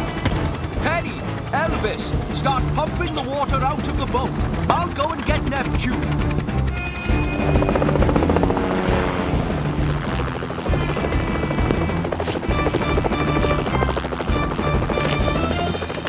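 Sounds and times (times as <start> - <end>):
background music: 0.0 - 16.0
helicopter rotor chopping: 0.0 - 16.0.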